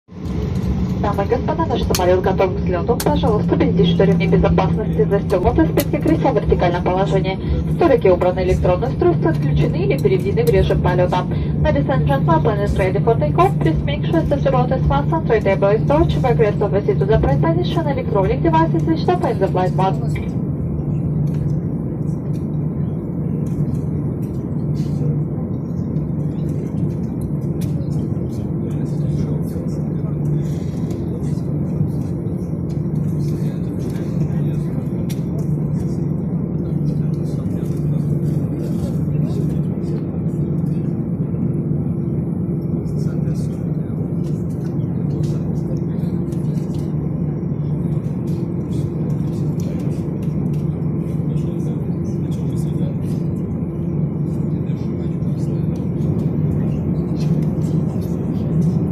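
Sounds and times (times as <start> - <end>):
airliner engine rumble in cabin: 0.1 - 58.9.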